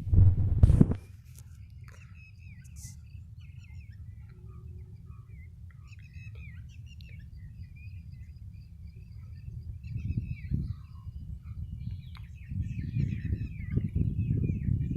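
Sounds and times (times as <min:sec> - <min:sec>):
steady low rumble: 0:00.0 - 0:14.9
small birds chirping: 0:01.2 - 0:14.9.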